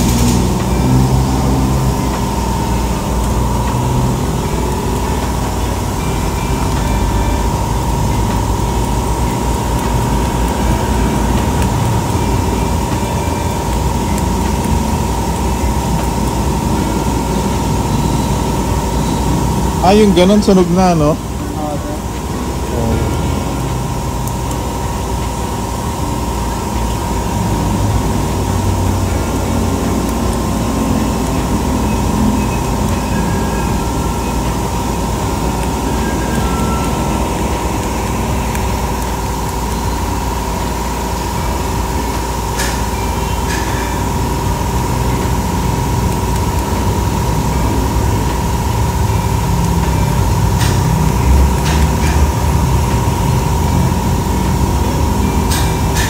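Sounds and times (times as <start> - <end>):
high machine whine: 0.0 - 56.0
machine low rumble: 0.0 - 56.0.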